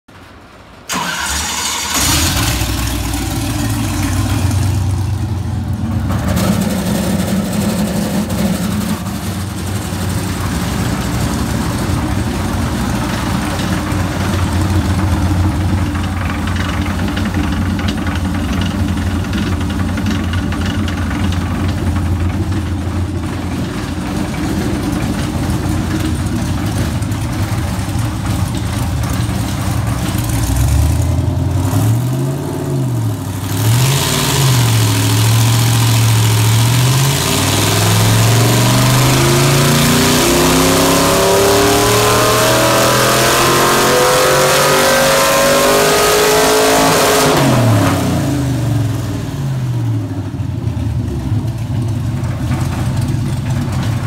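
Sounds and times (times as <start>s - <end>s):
engine revving through open exhaust: 0.9s - 50.2s.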